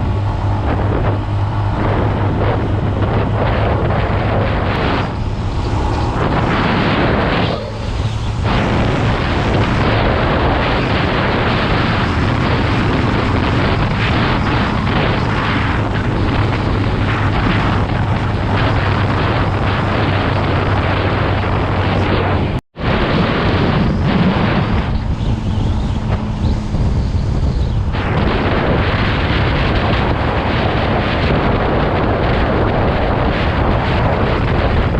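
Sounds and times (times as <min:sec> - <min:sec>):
motorbike engine hum: 0:00.0 - 0:34.9
wind buffeting microphone: 0:00.0 - 0:34.9.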